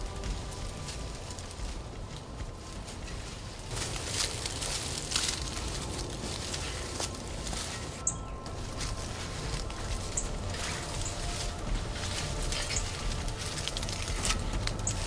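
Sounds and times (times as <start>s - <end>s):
footsteps through brush: 0.0s - 15.0s
low rumble: 0.0s - 15.0s.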